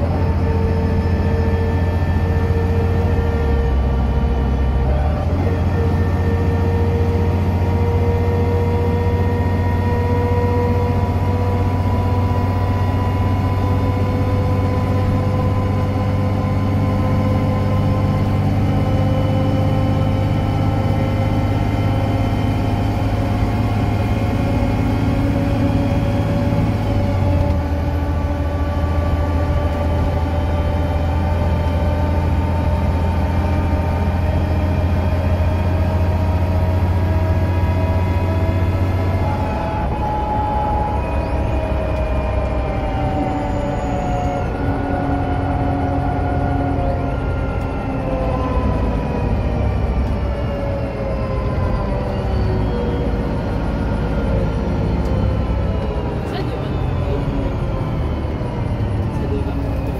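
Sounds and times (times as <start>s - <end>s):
axle whine rising: 0.0s - 59.9s
bus engine drone: 0.0s - 59.9s.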